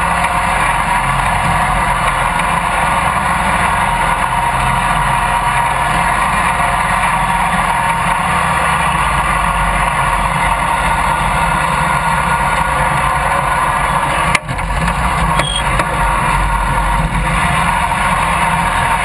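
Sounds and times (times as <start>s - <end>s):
riding lawn mower engine running: 0.0s - 19.0s.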